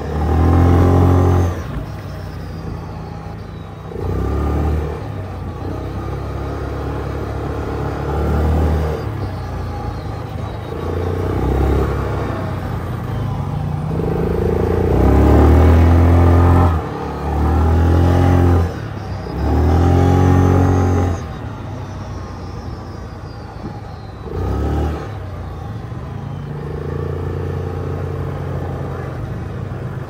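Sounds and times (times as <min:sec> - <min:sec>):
atv engine revving: 0:00.0 - 0:30.0
loud throttle bursts: 0:00.0 - 0:30.0.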